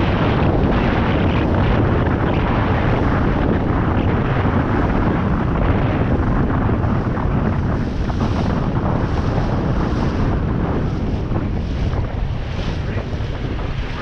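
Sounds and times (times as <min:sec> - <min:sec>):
water rushing past boat: 0:00.0 - 0:14.0
wind buffeting microphone: 0:00.0 - 0:14.0.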